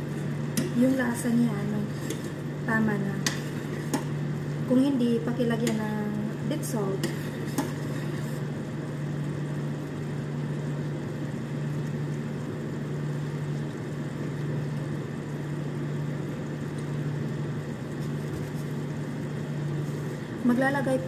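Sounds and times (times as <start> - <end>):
kitchen appliance humming: 0.0 - 21.0.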